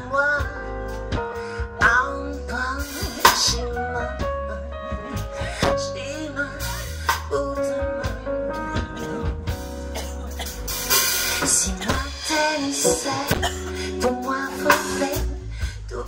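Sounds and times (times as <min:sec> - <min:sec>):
woman singing: 0:00.0 - 0:10.6, 0:11.4 - 0:16.0
bass line: 0:00.0 - 0:16.0
drum kit with cymbal hits: 0:00.0 - 0:16.0
guitar: 0:00.0 - 0:16.0.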